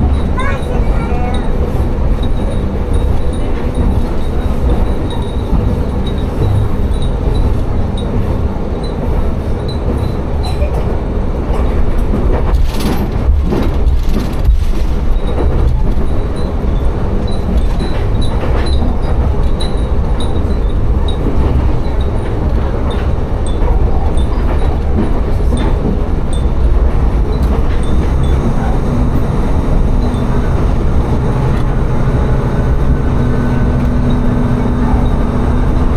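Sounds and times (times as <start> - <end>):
train clattering over track: 0.0 - 35.9
train engine and wheels drone: 0.0 - 35.9.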